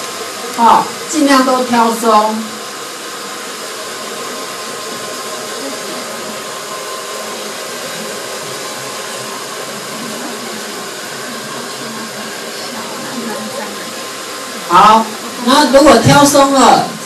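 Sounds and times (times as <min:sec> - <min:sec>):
hair dryer whirring: 0:00.0 - 0:17.0.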